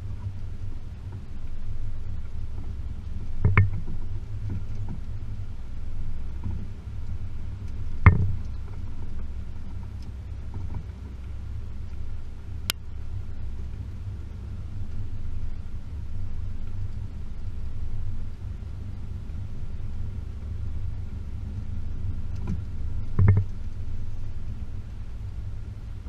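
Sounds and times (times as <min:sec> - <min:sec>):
vehicle driving rumble: 0:00.0 - 0:26.0.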